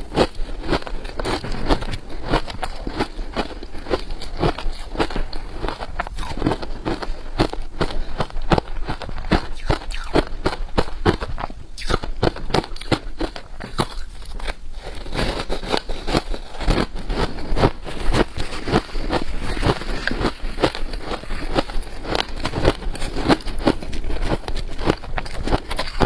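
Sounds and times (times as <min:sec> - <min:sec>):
frost being chewed: 0:00.0 - 0:26.0.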